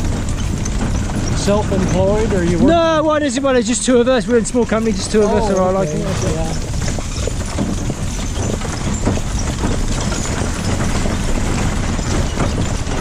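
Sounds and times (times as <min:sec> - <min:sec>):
horse hooves clopping: 0:00.0 - 0:13.0
wooden coach wheels rumbling: 0:00.0 - 0:13.0.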